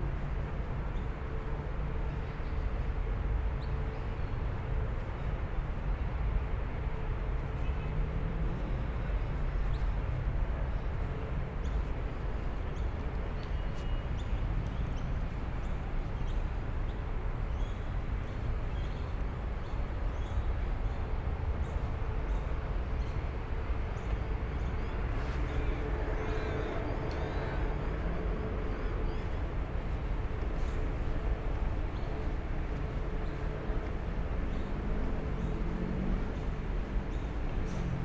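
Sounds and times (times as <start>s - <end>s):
low rumble of traffic: 0.0s - 38.0s.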